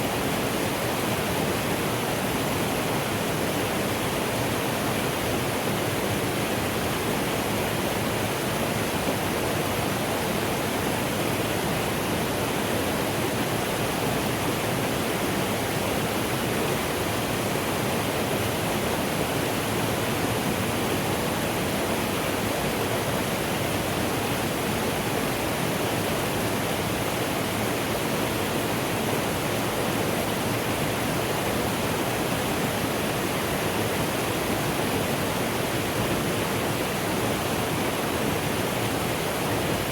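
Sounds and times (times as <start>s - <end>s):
mountain stream flowing: 0.0s - 39.9s.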